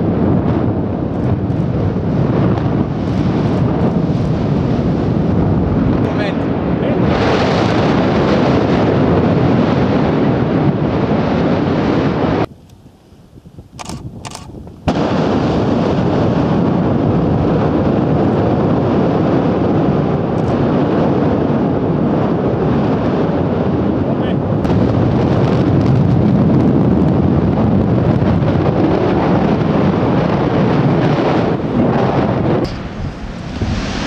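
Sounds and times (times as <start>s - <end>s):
volcanic eruption roar: 0.0s - 12.6s, 13.3s - 34.0s.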